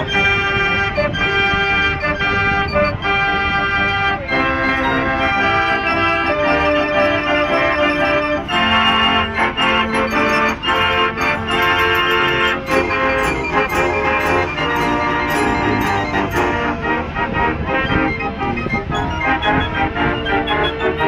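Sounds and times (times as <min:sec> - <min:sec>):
fairground pipe organ tune: 0:00.0 - 0:21.0.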